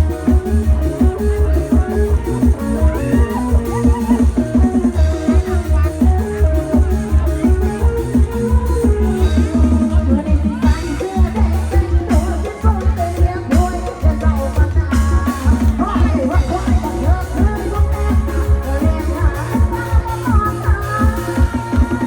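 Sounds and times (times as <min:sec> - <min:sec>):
live band music: 0:00.0 - 0:22.0
person singing: 0:00.0 - 0:22.0
pulsing bass beat: 0:00.0 - 0:22.0.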